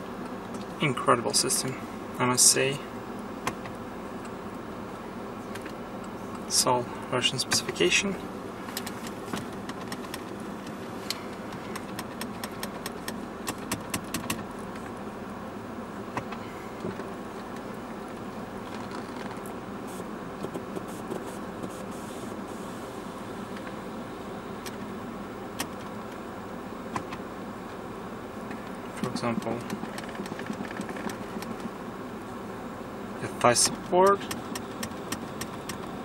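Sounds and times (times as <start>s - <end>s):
car cabin hum: 0.0s - 36.0s.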